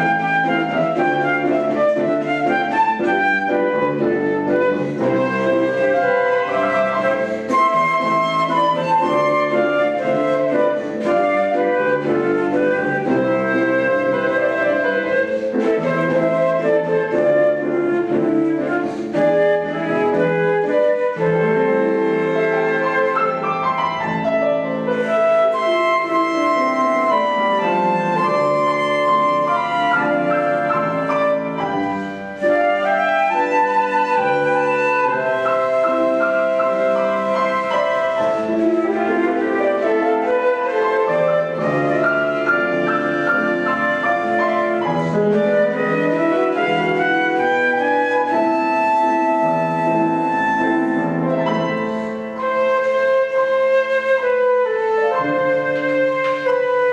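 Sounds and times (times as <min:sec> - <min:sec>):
instrumental duo music: 0:00.0 - 0:56.9.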